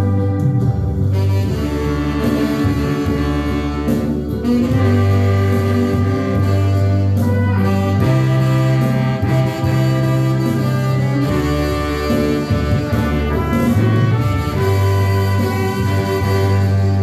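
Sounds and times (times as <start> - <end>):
slow instrumental praise music: 0.0 - 17.0.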